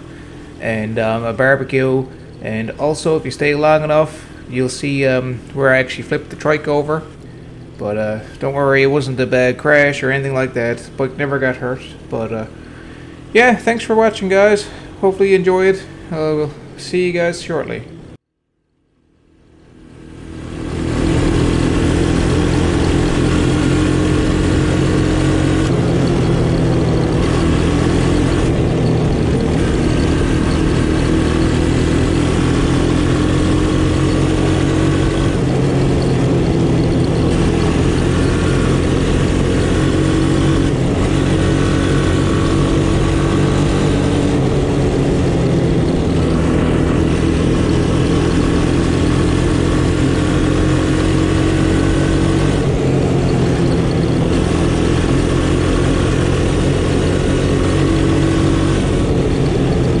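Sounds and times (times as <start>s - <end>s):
three-wheeler engine running: 0.0s - 18.2s, 19.5s - 60.0s.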